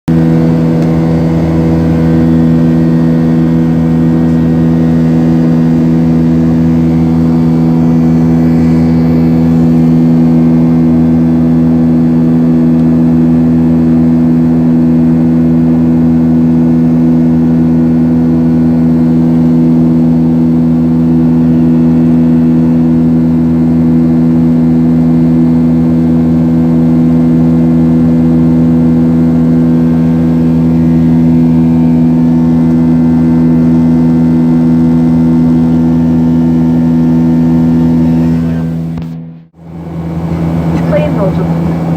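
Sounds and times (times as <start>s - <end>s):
aircraft cabin engine drone: 0.1s - 41.9s.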